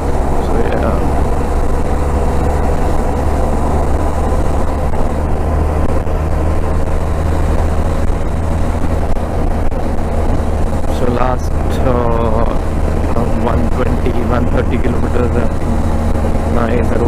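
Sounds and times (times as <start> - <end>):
motorcycle engine drone: 0.0 - 17.0
wind noise rushing: 0.0 - 17.0.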